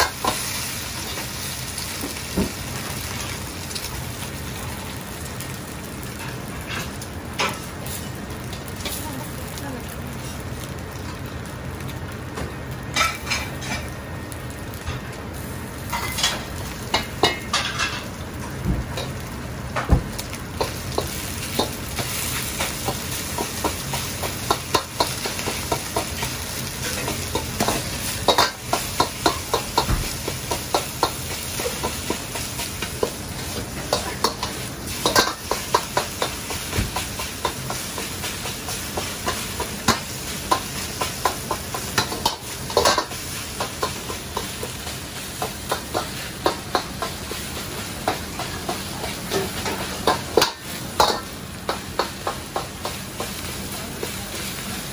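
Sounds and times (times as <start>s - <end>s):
hiss of frying: 0.0s - 54.9s.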